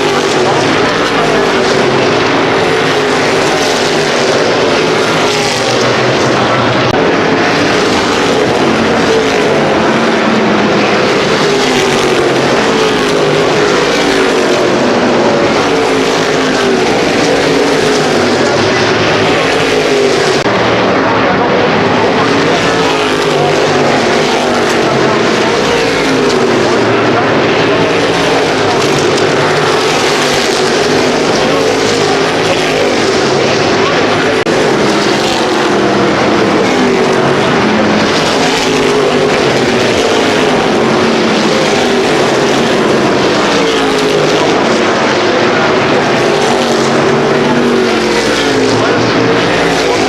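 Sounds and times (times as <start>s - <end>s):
race car engines passing: 0.0s - 50.0s.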